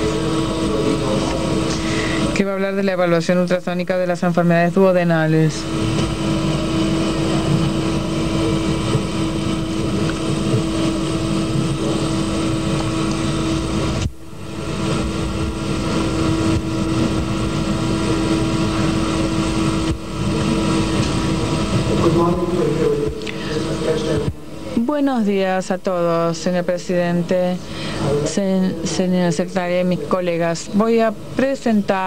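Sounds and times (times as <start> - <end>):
constant low hum: 0.0 - 32.0.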